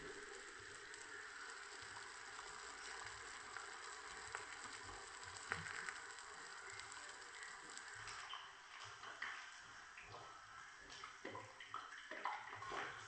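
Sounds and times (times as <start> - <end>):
deep-frying sizzle: 0.0 - 11.6.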